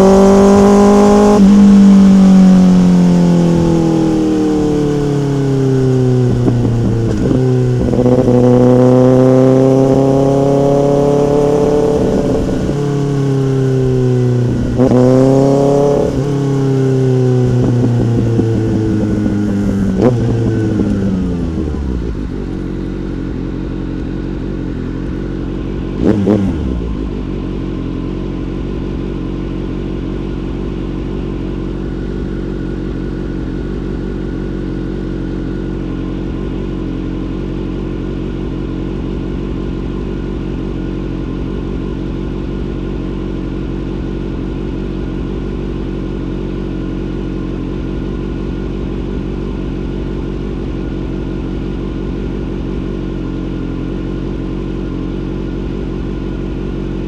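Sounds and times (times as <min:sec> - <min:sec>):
motorcycle engine: 0:00.0 - 0:57.0.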